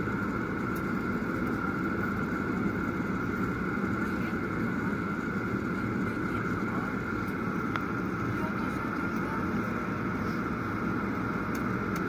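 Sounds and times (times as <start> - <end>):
airliner cabin engine rush: 0.0 - 12.0
constant high whine: 0.0 - 12.0.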